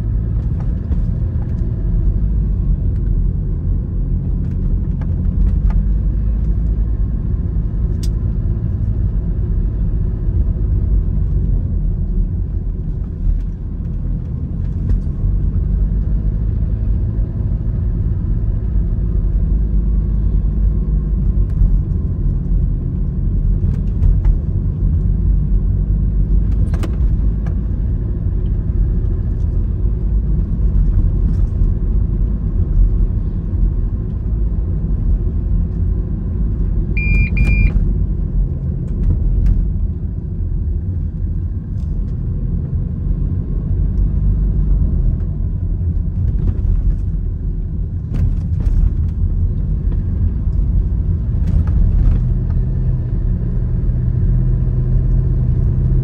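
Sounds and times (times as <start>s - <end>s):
vehicle driving rumble: 0.0s - 56.0s.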